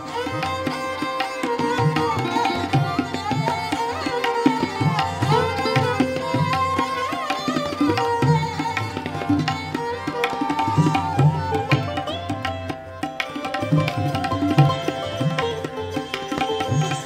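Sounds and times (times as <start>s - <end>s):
tabla strokes: 0.0s - 17.0s.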